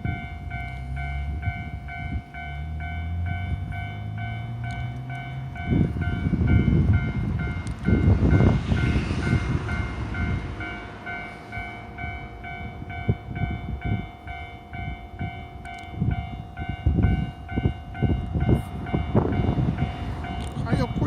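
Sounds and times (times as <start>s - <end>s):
level-crossing warning bell: 0.0s - 21.0s
train rumbling with thuds: 0.0s - 21.0s.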